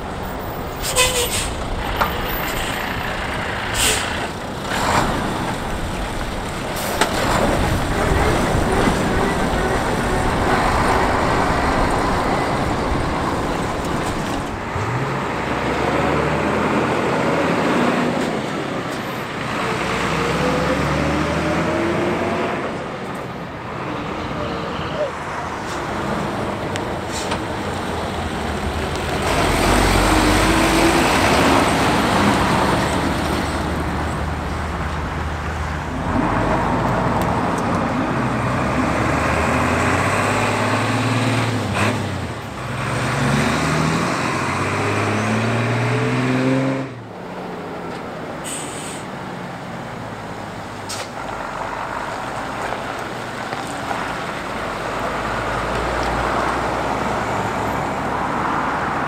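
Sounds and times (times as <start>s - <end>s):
diesel truck passing: 0.0s - 59.0s
truck accelerating through gears: 0.0s - 59.0s
truck engine rumbling: 0.0s - 59.0s.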